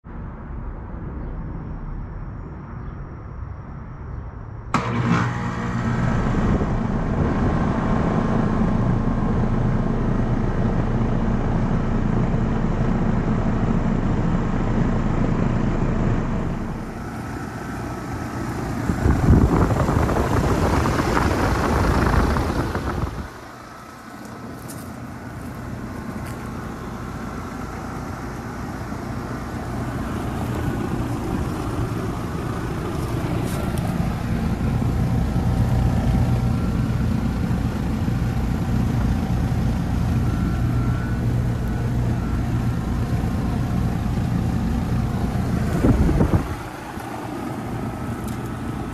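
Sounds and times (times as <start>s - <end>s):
air conditioner hum and whoosh: 4.6s - 48.9s
air conditioner starting clunk: 4.7s - 12.4s, 16.1s - 39.3s, 40.2s - 48.9s.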